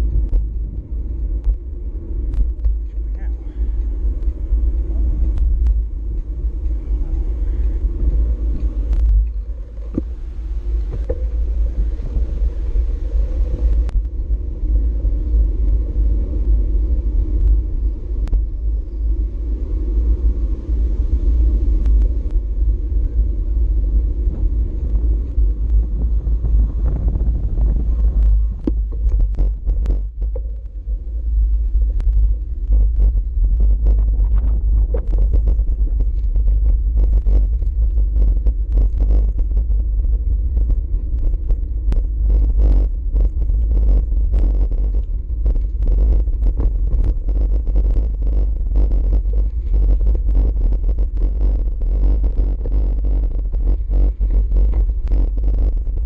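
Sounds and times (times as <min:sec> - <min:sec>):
road noise: 0:00.0 - 0:56.0
wind rumble on microphone: 0:00.0 - 0:56.0.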